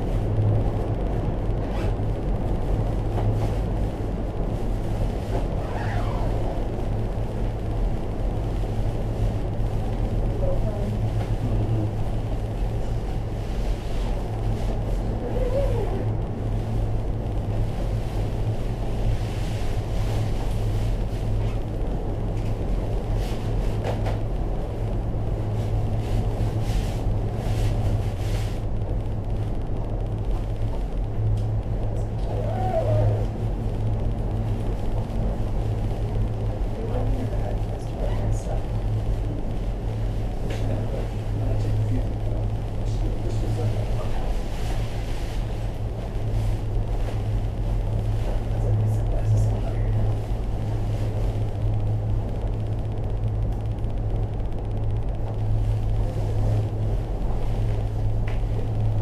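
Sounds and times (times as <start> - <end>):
cable car cabin rumble and hum: 0.0 - 59.0
faint ticks and rattles: 0.0 - 59.0
falling whine: 0.0 - 59.0.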